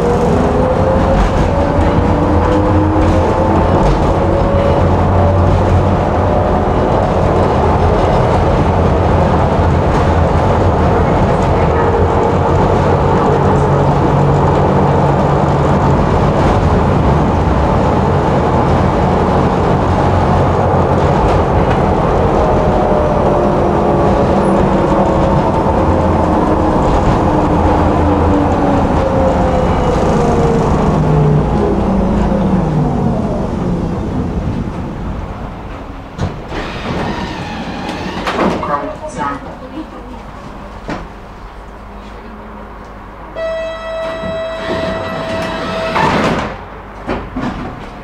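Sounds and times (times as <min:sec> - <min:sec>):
tram motor whine: 0:00.0 - 0:38.4, 0:43.3 - 0:47.9
tram wheels rumbling on rails: 0:00.0 - 0:48.0.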